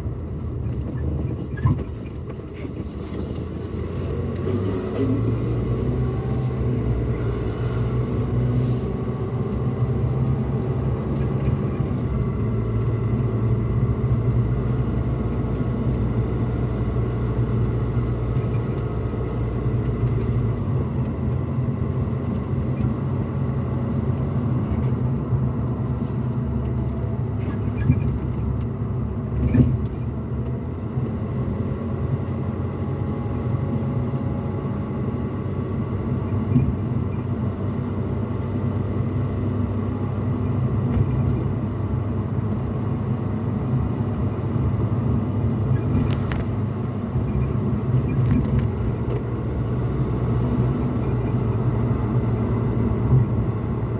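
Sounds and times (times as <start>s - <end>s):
engine and road rumble: 0.0s - 53.9s.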